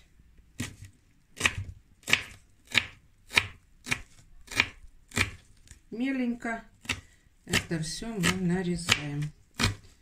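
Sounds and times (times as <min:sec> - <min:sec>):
knife chopping herbs: 0:00.6 - 0:05.8, 0:06.8 - 0:10.0.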